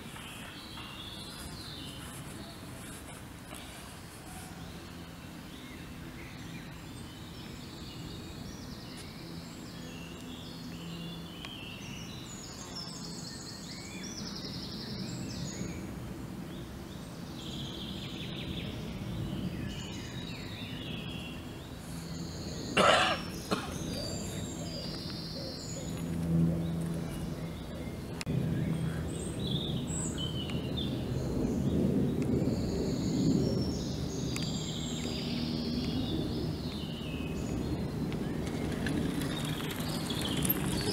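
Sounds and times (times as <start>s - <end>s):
birdsong: 0.0s - 40.9s.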